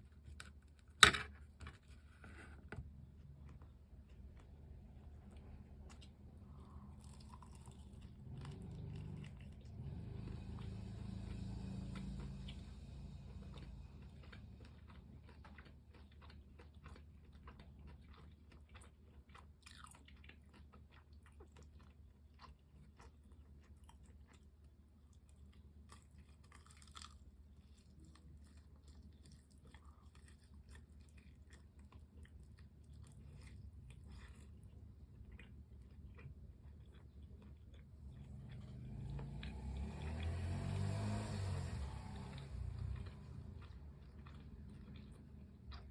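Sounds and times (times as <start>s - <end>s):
chewing crispy fried chicken: 3.2s - 45.9s.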